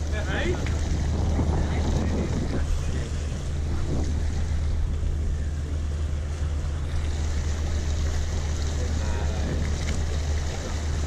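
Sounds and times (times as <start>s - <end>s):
boat engine droning: 0.0s - 11.0s
water rushing and splashing: 0.0s - 11.0s.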